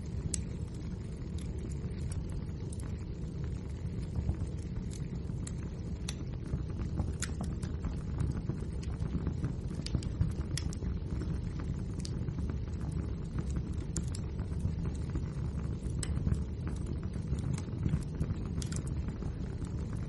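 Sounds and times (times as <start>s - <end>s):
fire crackling and popping: 0.0s - 20.0s
low rumble of burning logs: 0.0s - 20.0s.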